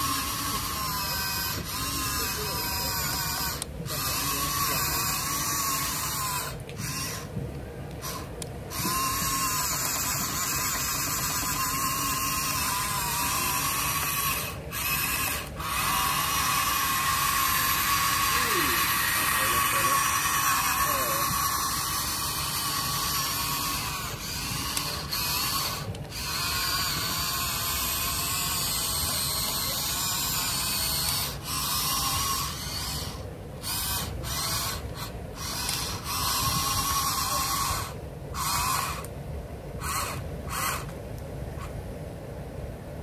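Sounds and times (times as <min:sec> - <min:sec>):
small electric motors whining: 0:00.0 - 0:41.0, 0:41.6 - 0:41.8.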